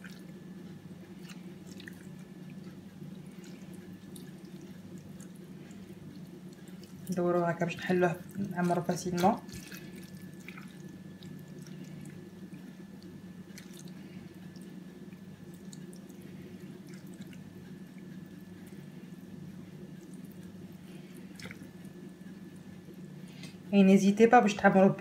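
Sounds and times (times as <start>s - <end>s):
wet squishing of hands: 0.0s - 23.6s
steady low hum: 0.0s - 25.0s.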